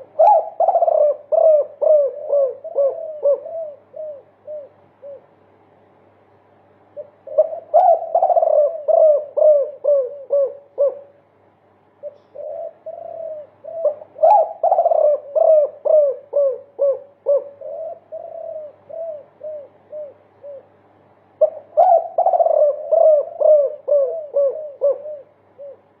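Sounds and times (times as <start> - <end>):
dove cooing: 0.0 - 5.4, 6.9 - 11.3, 12.0 - 26.0.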